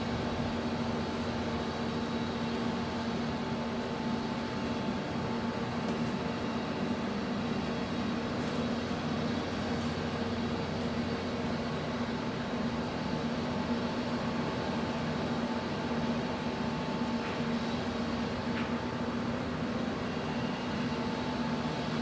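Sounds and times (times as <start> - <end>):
ship engine drone: 0.0 - 22.0.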